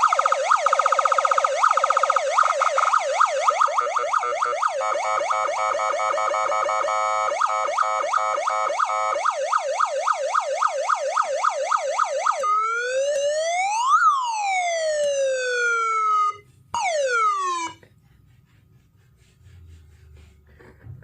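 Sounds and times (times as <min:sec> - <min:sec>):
electronic siren warbling: 0:00.0 - 0:17.8.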